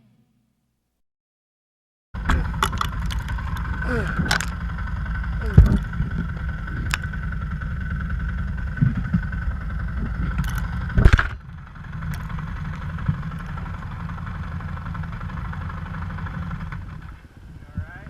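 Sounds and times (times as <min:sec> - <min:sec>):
dirt bike engine running: 0:02.2 - 0:17.4.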